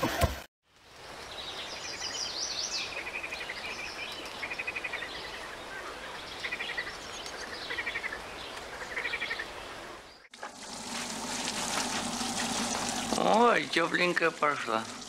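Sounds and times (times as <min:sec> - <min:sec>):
outdoor ambience hiss: 0:00.7 - 0:08.8, 0:09.4 - 0:15.0.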